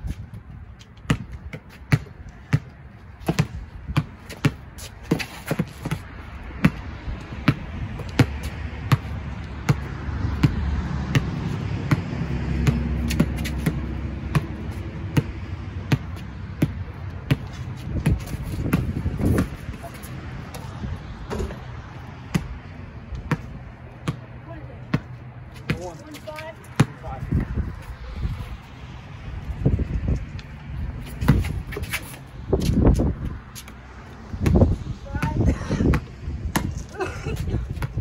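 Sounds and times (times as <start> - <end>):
basketball bouncing on concrete: 0.8 - 21.7, 22.3 - 27.9, 31.0 - 38.0.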